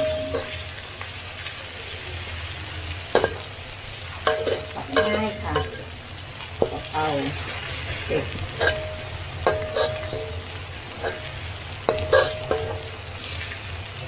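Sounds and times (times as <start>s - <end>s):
garlic sizzling in hot oil: 0.0s - 14.0s.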